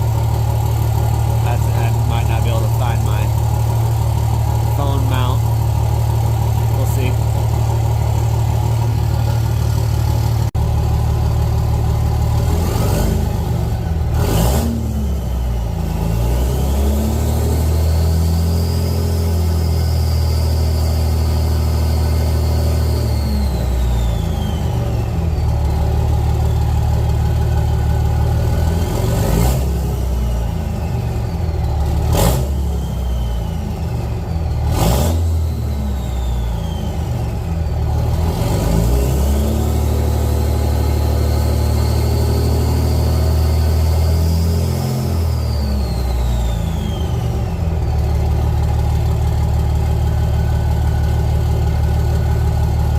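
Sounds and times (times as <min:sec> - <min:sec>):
diesel engine with turbo whistle: 0:00.0 - 0:52.9.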